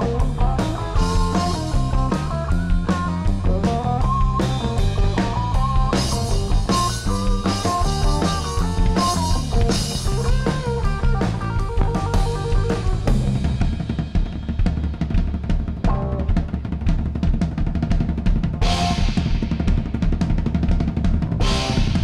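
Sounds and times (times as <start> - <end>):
drum kit fast strikes: 0.0 - 22.0
live rock band playing: 0.0 - 22.0.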